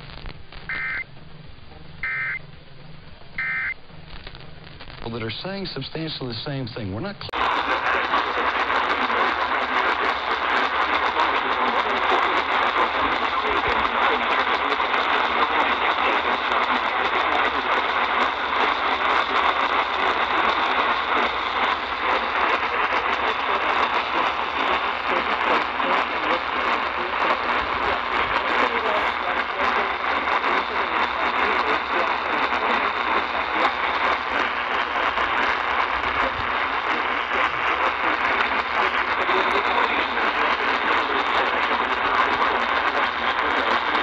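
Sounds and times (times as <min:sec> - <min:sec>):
radio hiss and static: 0:00.0 - 0:44.0.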